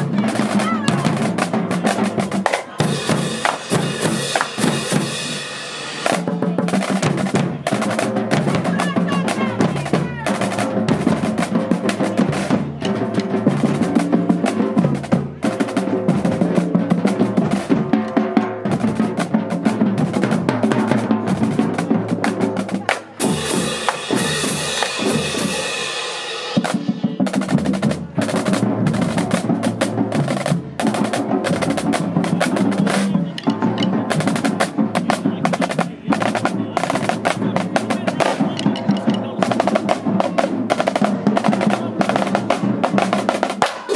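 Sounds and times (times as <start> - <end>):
drumline playing snare and bass drums: 0.0 - 43.9.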